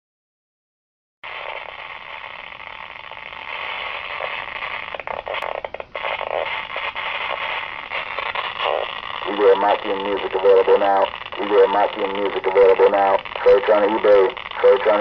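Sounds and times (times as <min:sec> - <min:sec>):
crackles: 0:01.2 - 0:15.0
radio static hiss: 0:01.2 - 0:15.0.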